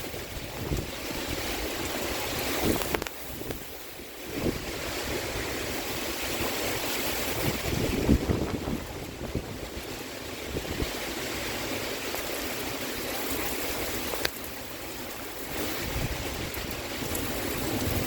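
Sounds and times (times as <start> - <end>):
wind buffeting microphone: 0.0 - 12.1, 15.2 - 18.0
heavy rain pouring: 0.0 - 18.0.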